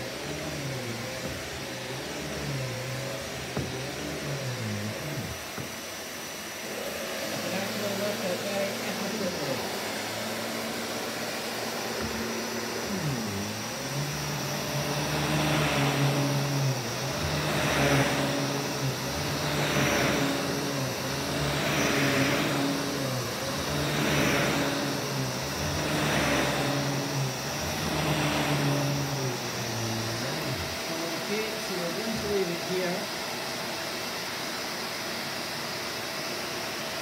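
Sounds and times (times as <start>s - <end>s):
vacuum cleaner on carpet: 0.0s - 37.0s.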